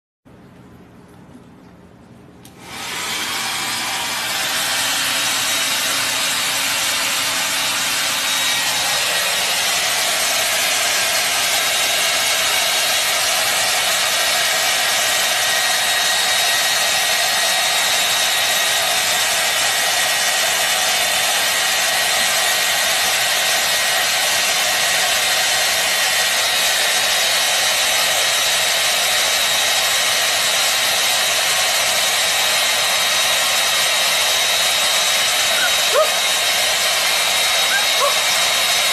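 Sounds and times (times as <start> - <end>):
hair dryer blowing: 2.4 - 38.9.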